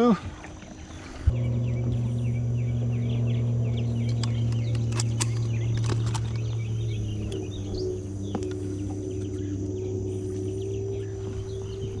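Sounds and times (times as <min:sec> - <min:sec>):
birds chirping: 0:00.0 - 0:12.0
low mechanical hum: 0:00.2 - 0:12.0.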